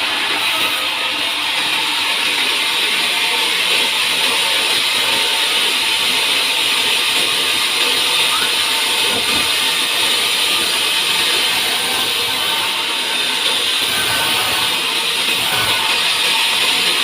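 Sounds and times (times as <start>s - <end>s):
saw cutting through log: 0.0s - 17.0s.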